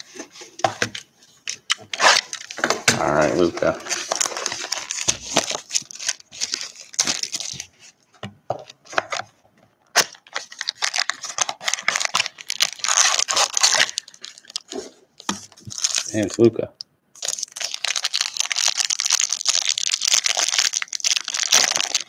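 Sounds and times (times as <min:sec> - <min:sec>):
thin plastic crinkling: 0:00.0 - 0:08.0, 0:10.0 - 0:16.4, 0:17.2 - 0:22.0.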